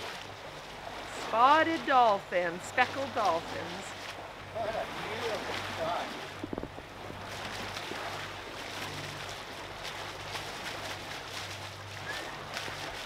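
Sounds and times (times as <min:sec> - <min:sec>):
water rushing along boat bow: 0:00.0 - 0:13.0.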